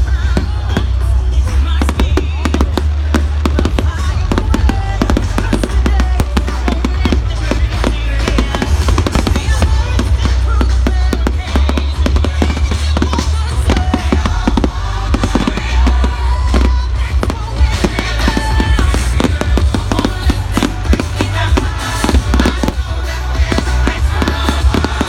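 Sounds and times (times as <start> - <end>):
fireworks bangs and crackles: 0.0 - 25.0
loud music with deep bass: 0.0 - 25.0.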